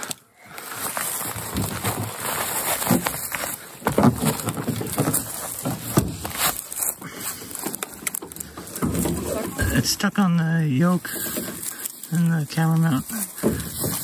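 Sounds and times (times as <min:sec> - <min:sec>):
brush rustling underfoot: 0:00.0 - 0:14.0
canoe hull knocking and scraping: 0:01.1 - 0:14.0.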